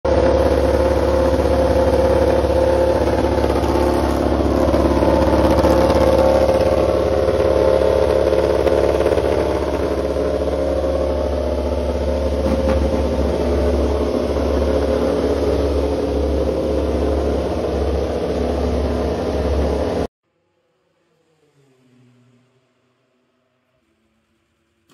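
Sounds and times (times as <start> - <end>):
motorcycle engine running: 0.1 - 20.1.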